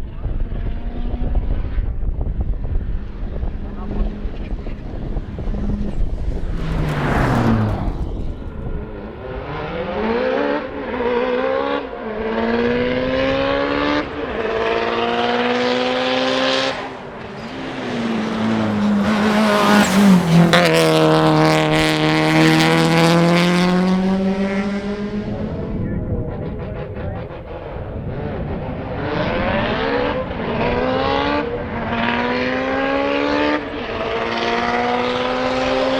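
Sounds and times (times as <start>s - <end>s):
car engine at full throttle: 0.0s - 35.9s.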